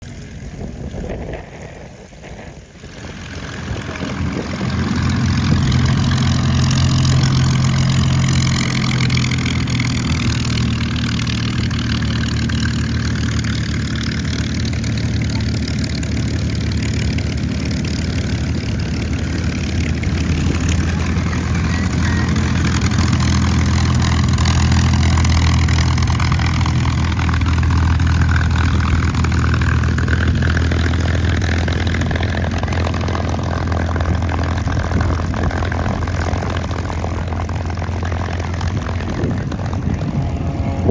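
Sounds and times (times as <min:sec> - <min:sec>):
piston aircraft engine droning: 0:00.0 - 0:40.9.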